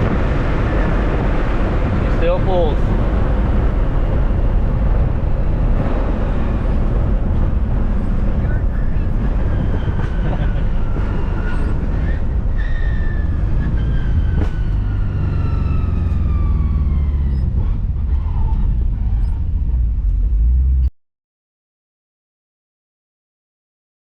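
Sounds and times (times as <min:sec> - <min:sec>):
car engine and road rumble: 0:00.0 - 0:20.9.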